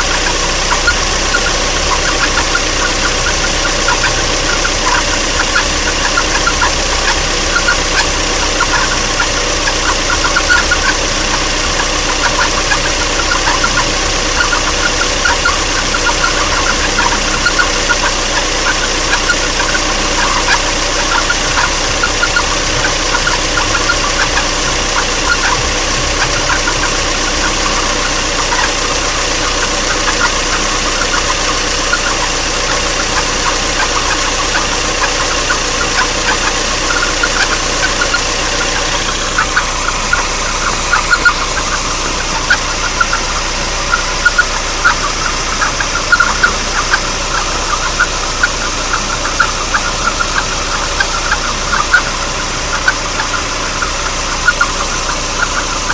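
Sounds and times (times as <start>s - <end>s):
car engine idling: 0.0s - 55.9s
irregular engine ticking: 0.0s - 55.9s.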